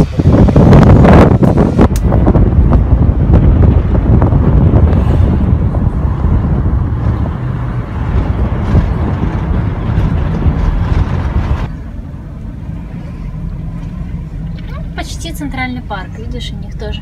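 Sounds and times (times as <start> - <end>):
car wind and road noise: 0.0 - 17.0.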